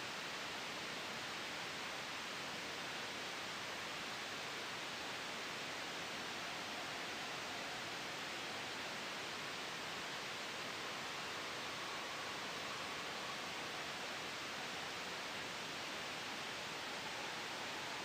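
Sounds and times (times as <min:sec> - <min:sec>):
gentle wind: 0:00.0 - 0:18.0
white noise hiss: 0:00.0 - 0:18.0.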